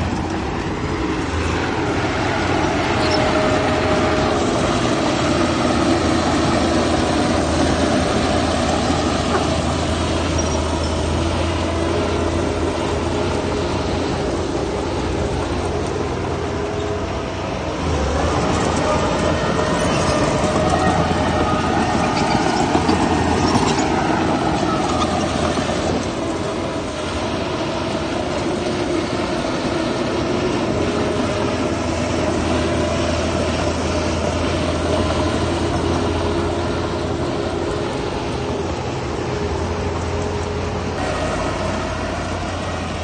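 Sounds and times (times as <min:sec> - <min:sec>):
heavy diesel engines running: 0:00.0 - 0:43.0.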